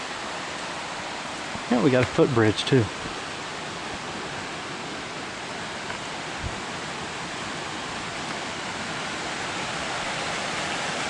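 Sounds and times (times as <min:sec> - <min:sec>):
creek and waterfall rushing: 0:00.0 - 0:11.0.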